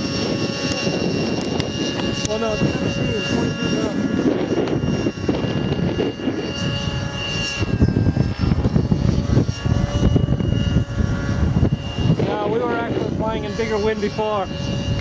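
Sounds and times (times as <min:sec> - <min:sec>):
model helicopter engine whine: 0:00.0 - 0:15.0
wind buffeting microphone: 0:00.0 - 0:15.0.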